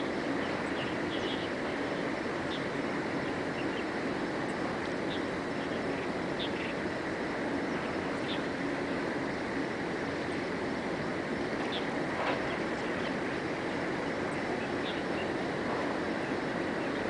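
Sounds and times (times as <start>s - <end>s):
birds chirping: 0.0s - 10.9s, 11.5s - 17.0s
steady rushing noise: 0.0s - 17.0s.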